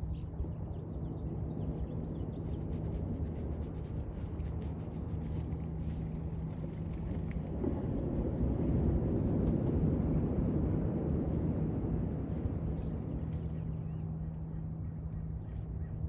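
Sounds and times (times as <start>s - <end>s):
low steady hum: 0.0s - 16.0s
wind and surf rumble: 0.0s - 16.0s.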